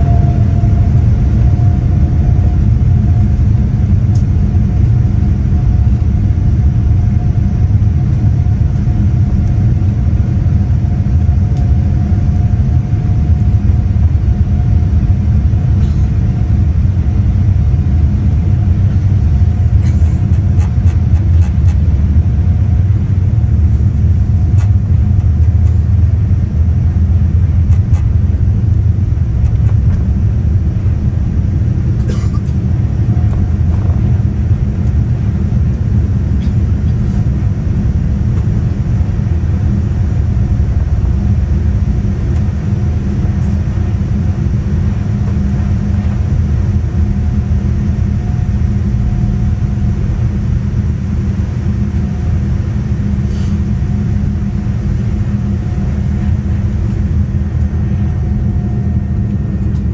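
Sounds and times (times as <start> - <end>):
airliner cabin rumble: 0.0 - 59.9
thin steady whine: 0.0 - 59.9.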